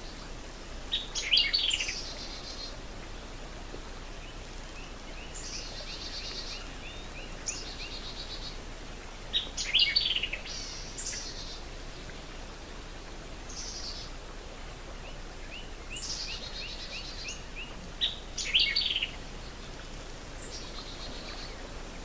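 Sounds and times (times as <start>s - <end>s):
steady outdoor hiss: 0.0s - 22.0s
loud complex bird song: 0.9s - 2.8s, 4.2s - 12.1s, 13.4s - 14.2s, 14.9s - 22.0s.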